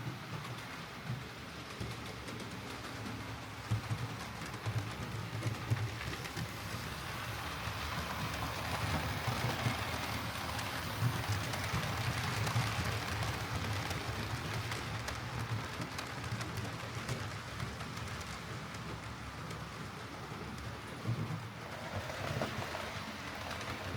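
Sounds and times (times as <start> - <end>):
wheels rumbling on rails: 0.0 - 23.9.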